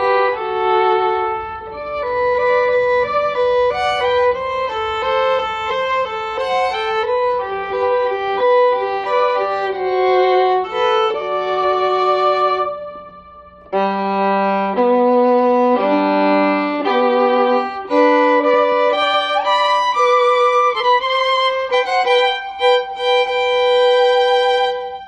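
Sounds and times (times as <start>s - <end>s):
slow instrumental melody: 0.0s - 25.0s.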